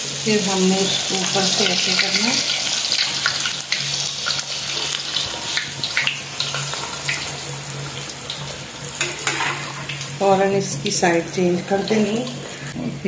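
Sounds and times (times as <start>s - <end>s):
food sizzling in hot oil: 0.0s - 12.8s.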